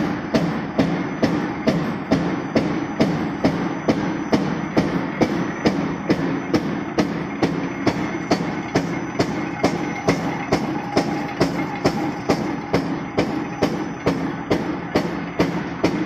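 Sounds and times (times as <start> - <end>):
motor and flywheel hum: 0.0 - 16.0
punch press stamping metal: 0.0 - 16.0.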